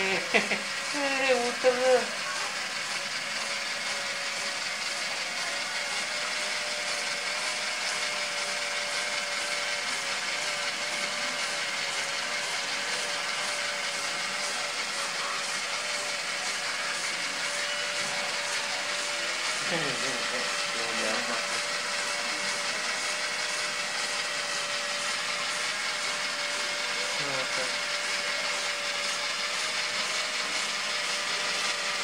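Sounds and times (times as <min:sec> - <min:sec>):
small electric motor whirring: 0:00.0 - 0:32.0.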